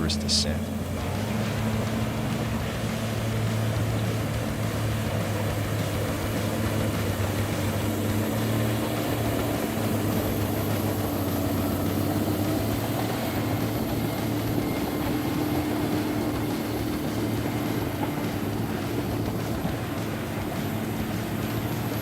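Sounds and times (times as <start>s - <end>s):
heavy vehicle engine droning: 0.0s - 22.0s.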